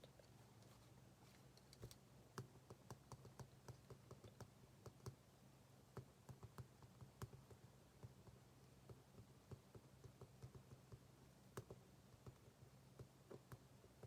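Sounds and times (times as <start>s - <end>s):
soft clicks and taps at desk: 0.0s - 5.2s, 5.9s - 14.0s
faint low hum: 0.0s - 14.0s.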